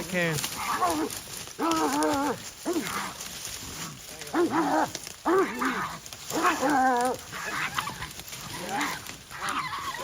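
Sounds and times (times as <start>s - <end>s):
hound bawling: 0.5s - 3.2s, 4.3s - 10.0s.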